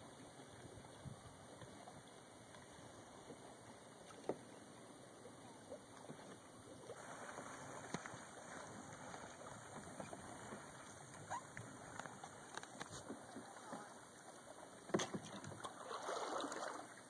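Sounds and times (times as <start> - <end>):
water lapping around kayak: 0.0 - 17.0.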